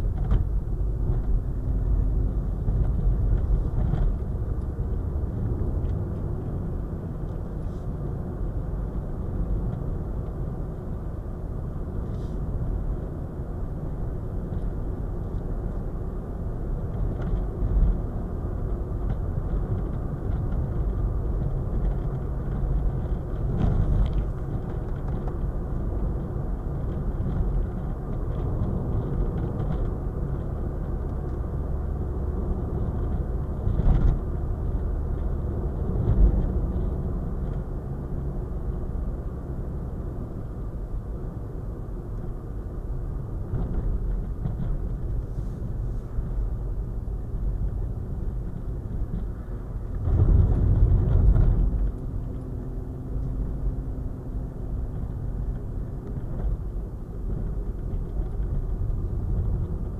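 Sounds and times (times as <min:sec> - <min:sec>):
thumps from road bumps: 0:00.0 - 0:06.7, 0:14.4 - 0:40.2, 0:41.2 - 0:59.9
tyre and engine rumble: 0:00.0 - 0:59.9.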